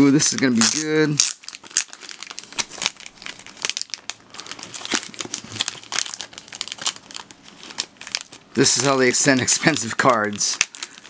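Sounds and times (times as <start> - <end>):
plastic pouch crinkling: 0.0 - 11.0.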